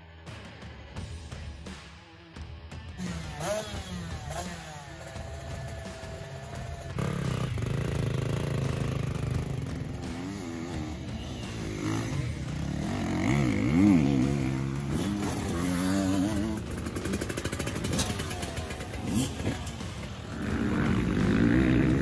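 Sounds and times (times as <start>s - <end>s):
dirt bike engine revving: 3.0s - 22.0s.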